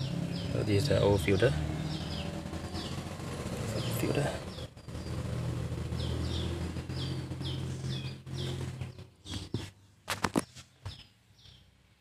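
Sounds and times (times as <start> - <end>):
bird chirping: 0.0 - 10.0, 10.7 - 11.9.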